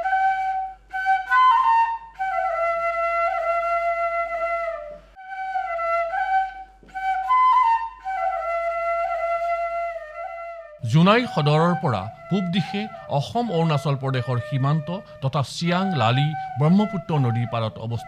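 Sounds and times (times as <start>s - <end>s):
solo flute slow melody: 0.0s - 18.0s.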